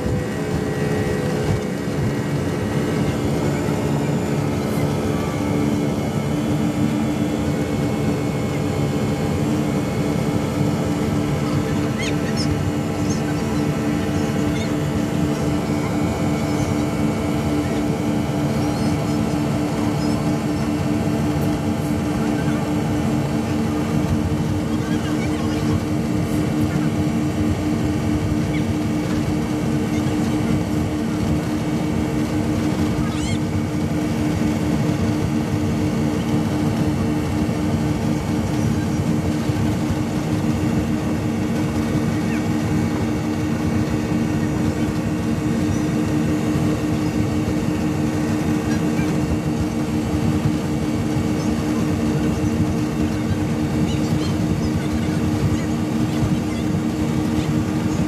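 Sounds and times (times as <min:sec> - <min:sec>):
outboard engines droning: 0:00.0 - 0:58.0.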